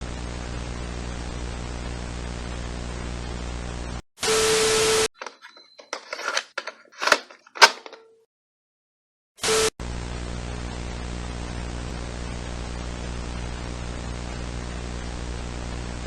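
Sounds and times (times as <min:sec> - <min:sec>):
electronic static with low hum: 0:00.0 - 0:06.8, 0:09.4 - 0:16.0.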